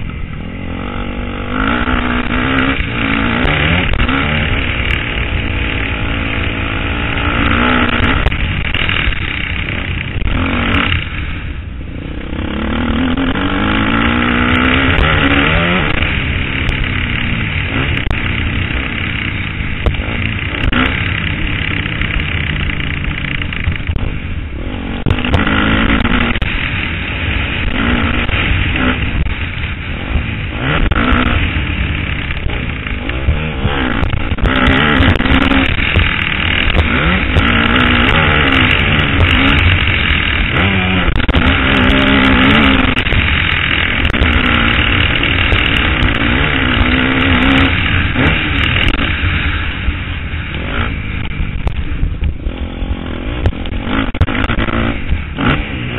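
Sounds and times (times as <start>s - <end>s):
motocross engine revving: 0.0s - 55.9s
steady low rumble: 0.0s - 55.9s.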